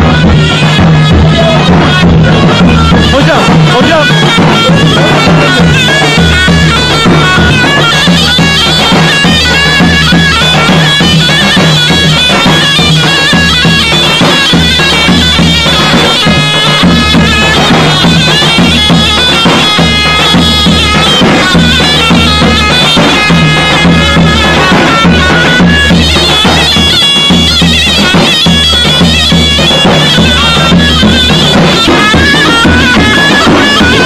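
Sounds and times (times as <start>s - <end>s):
davul bass drum beat: 0.0s - 34.0s
shrill zurna melody: 0.0s - 34.0s.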